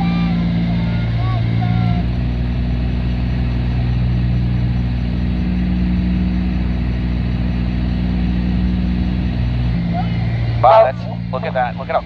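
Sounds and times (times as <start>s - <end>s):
twin propeller engines droning: 0.0s - 12.0s.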